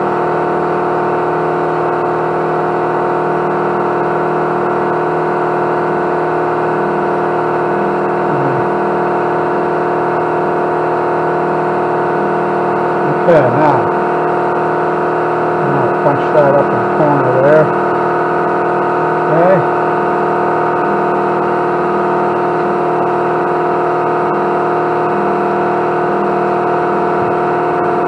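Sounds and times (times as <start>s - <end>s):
motor humming: 0.0s - 28.0s.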